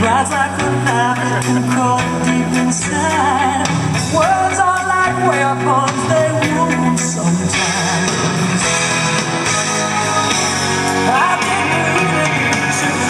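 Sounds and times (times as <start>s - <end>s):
pop-rock song: 0.0s - 13.0s.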